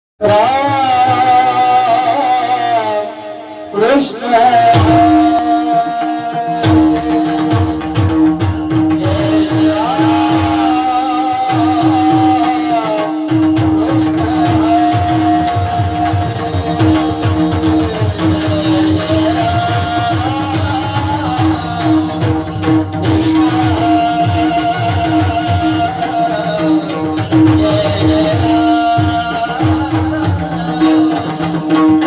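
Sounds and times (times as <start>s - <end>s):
man singing long high notes: 0.2s - 32.0s
jingling cymbal beats: 4.6s - 32.0s
hand drum strokes: 4.7s - 32.0s.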